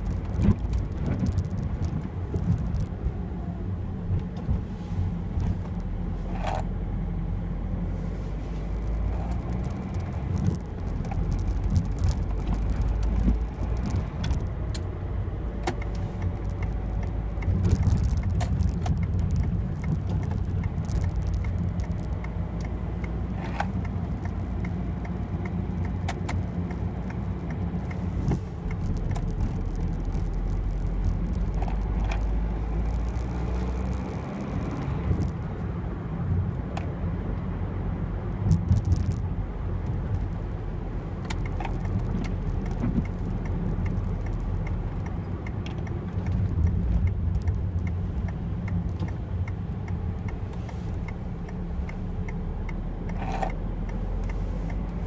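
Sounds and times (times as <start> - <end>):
diesel engine low rumble: 0.0 - 55.0
road noise: 0.0 - 55.0.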